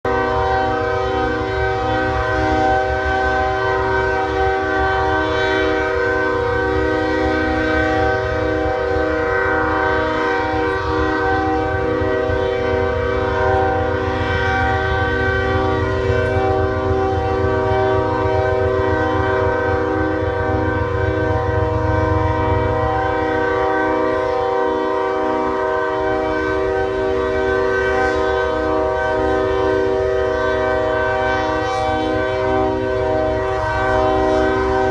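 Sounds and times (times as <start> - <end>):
train horn blast: 0.0 - 34.9.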